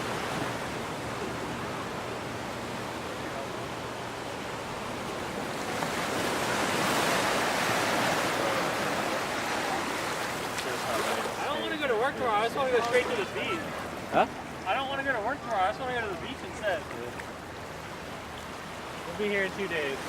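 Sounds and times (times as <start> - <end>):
ocean surf washing ashore: 0.0 - 20.0.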